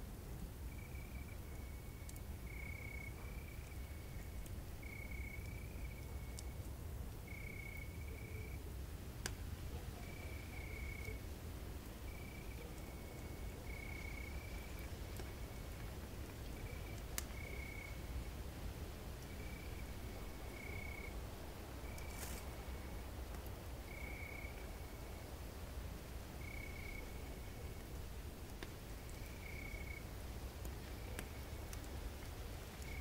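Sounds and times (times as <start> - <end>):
campfire popping: 0.5 - 33.0.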